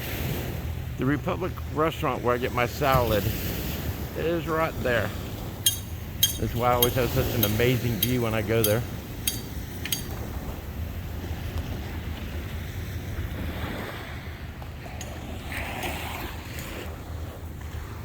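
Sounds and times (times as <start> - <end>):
waves washing onto beach: 0.0 - 18.0
wind rumbling on microphone: 0.0 - 18.0.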